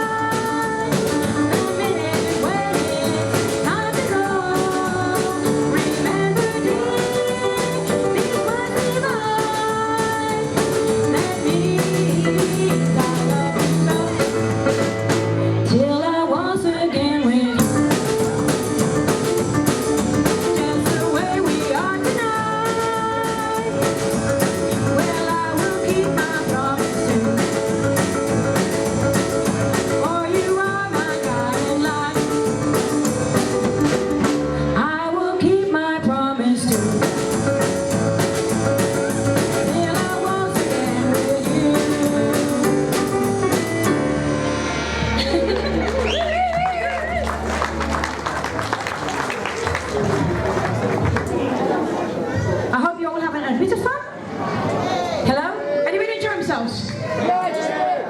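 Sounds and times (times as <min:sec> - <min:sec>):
live band playing waltz: 0:00.0 - 0:16.2, 0:17.0 - 0:35.5, 0:36.4 - 0:52.8.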